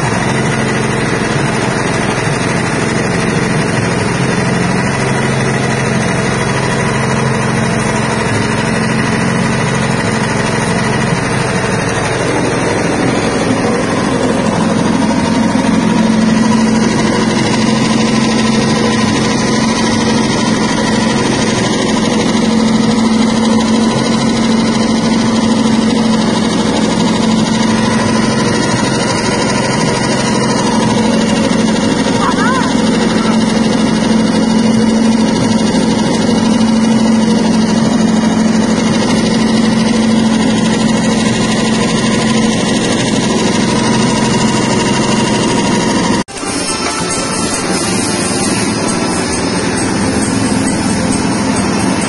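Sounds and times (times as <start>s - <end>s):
dehulling machine motor hum: 0.0s - 52.0s.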